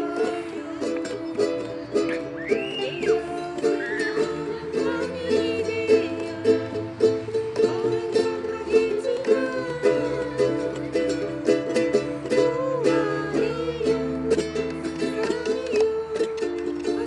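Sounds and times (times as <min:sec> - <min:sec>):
ukuleles strumming chords: 0:00.0 - 0:17.0.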